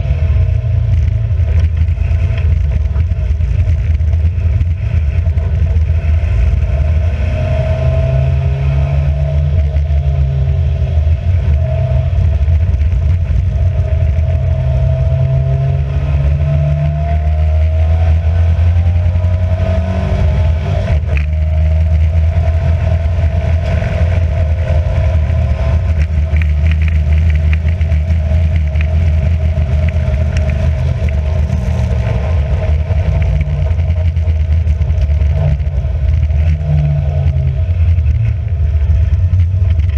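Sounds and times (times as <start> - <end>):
racing car engine at speed: 0.0 - 39.9.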